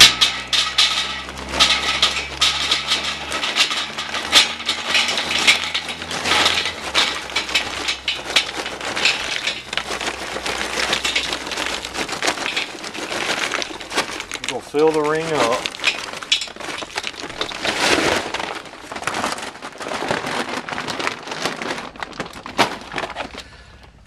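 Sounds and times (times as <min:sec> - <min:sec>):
charcoal briquettes clattering: 0:00.0 - 0:24.0.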